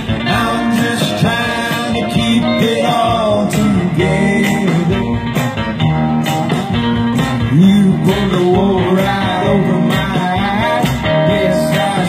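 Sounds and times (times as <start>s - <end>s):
men singing: 0.0s - 5.3s, 7.4s - 12.0s
acoustic guitars strumming: 0.0s - 12.0s.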